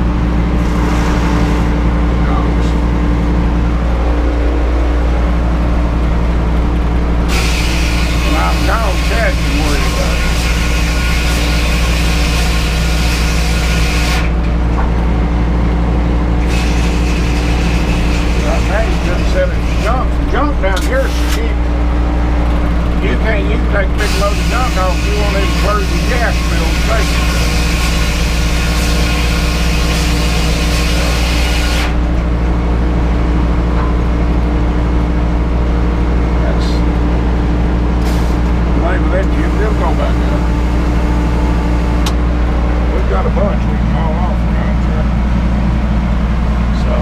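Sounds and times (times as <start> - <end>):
engine droning: 0.0 - 47.0.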